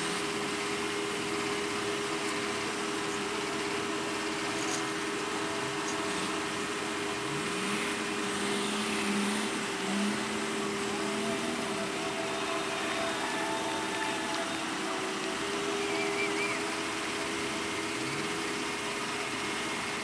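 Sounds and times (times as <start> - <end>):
engine revving: 0.0 - 20.0
steady background hum: 0.0 - 20.0.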